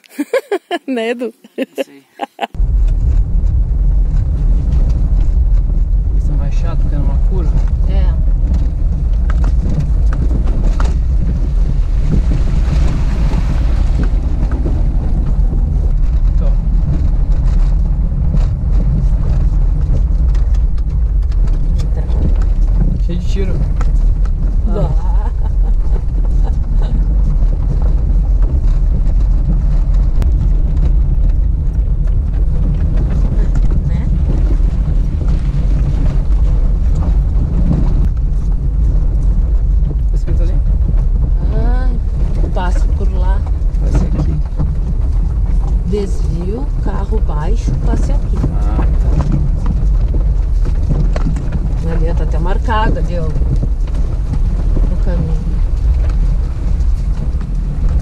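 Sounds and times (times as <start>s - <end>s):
car engine and tyres on gravel: 2.4s - 58.0s
knocks and rattles: 2.4s - 58.0s
wind buffeting microphone: 2.4s - 58.0s.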